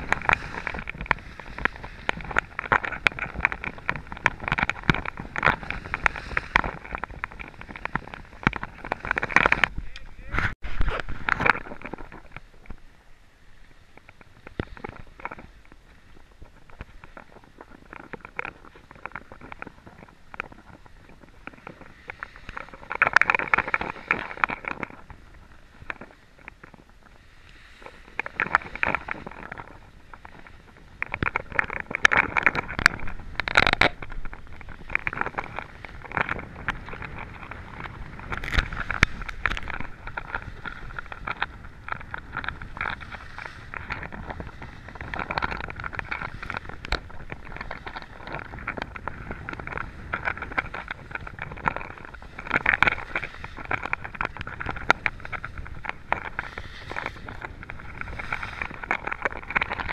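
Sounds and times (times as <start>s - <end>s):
skis scraping over packed snow: 0.0s - 12.8s, 13.8s - 59.9s.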